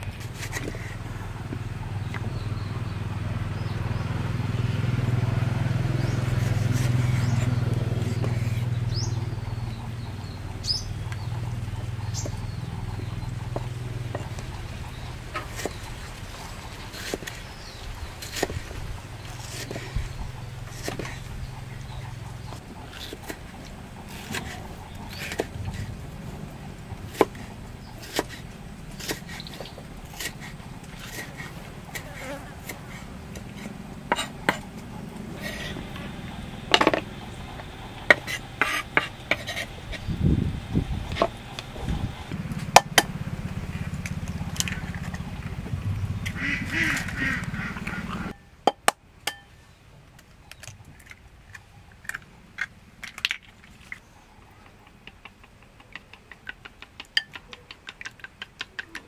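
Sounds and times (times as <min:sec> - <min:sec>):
low background rumble: 0:00.0 - 0:55.6.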